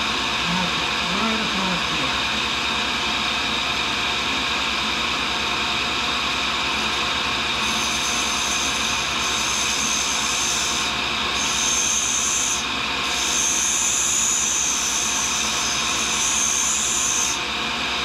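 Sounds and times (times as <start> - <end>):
grinder motor hum: 0.0 - 17.5.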